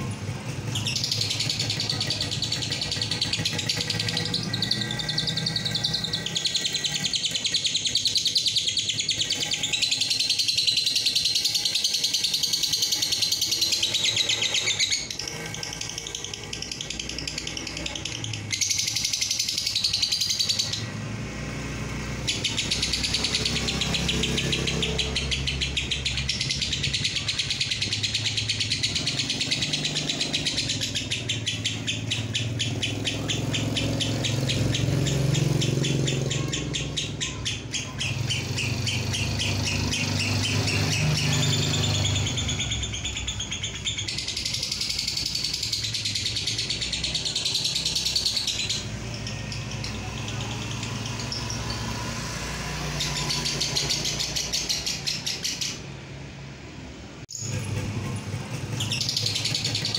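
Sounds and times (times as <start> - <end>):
lovebird chattering trill: 0.0 - 21.0, 22.1 - 56.1, 57.3 - 59.9.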